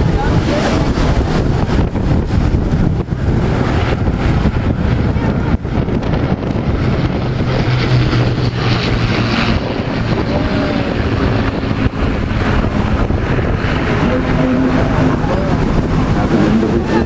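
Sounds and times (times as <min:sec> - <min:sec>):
propeller aircraft droning: 0:00.0 - 0:17.0
wind buffeting microphone: 0:00.0 - 0:17.0.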